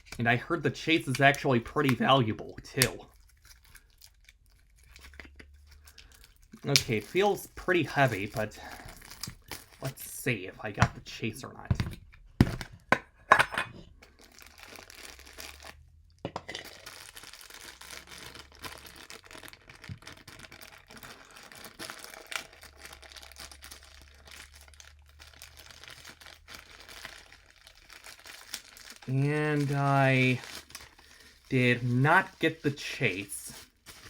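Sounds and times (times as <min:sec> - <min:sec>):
packaging crinkling and rustling: 0:00.8 - 0:12.9, 0:13.9 - 0:34.0.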